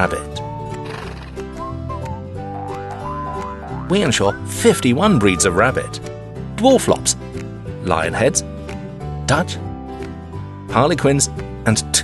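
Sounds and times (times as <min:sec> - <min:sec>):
background music melody: 0:00.0 - 0:12.0.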